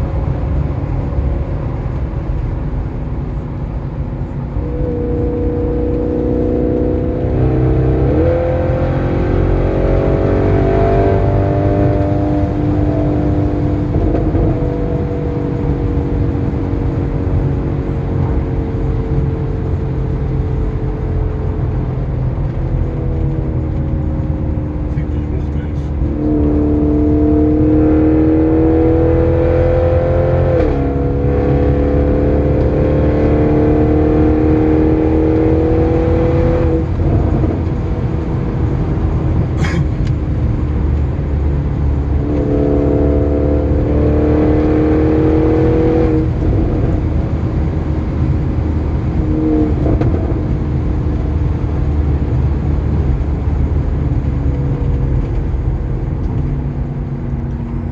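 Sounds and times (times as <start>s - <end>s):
car engine accelerating hard: 0.0s - 57.9s
low road rumble: 0.0s - 57.9s.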